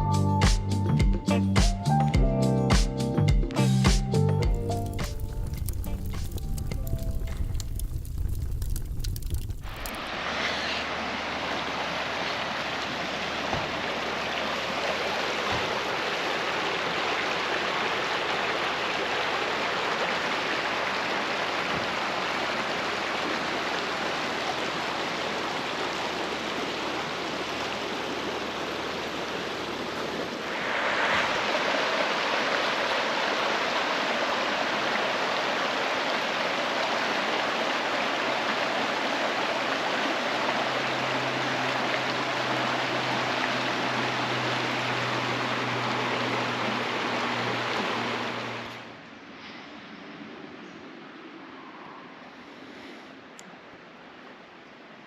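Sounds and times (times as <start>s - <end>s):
creek water running: 4.2s - 49.0s.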